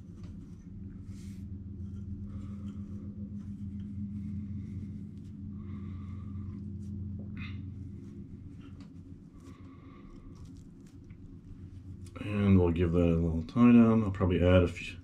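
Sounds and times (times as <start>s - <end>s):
soft rustles of hair: 0.0s - 14.8s
steady low room hum: 0.0s - 15.0s.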